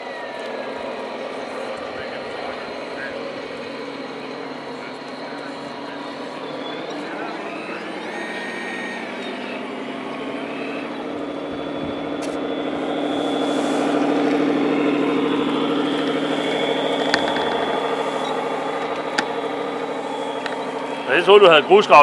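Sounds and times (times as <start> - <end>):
toy truck mechanical hum: 0.0 - 22.0.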